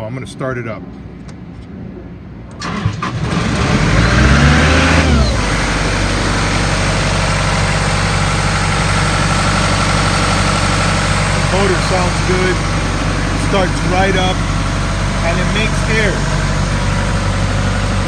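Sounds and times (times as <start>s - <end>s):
diesel engine starting and running: 2.5s - 18.0s.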